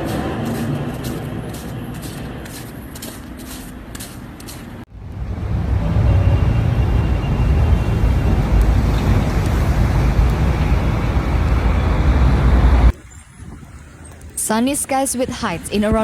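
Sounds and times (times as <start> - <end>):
city street noise: 0.0 - 16.0.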